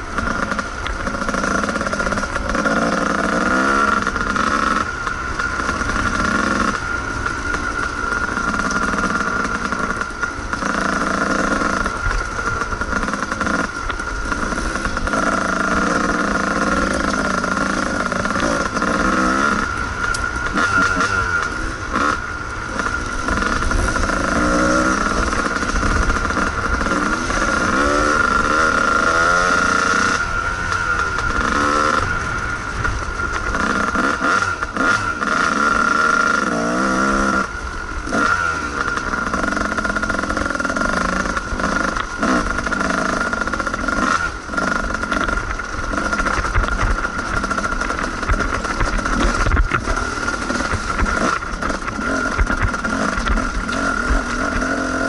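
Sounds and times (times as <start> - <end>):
two-stroke engine revving: 0.0 - 55.0.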